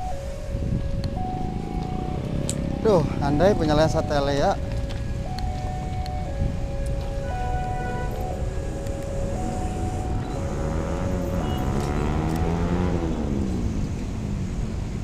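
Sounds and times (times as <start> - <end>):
level-crossing alarm two tones: 0.0 - 12.1
train passing: 0.0 - 14.9.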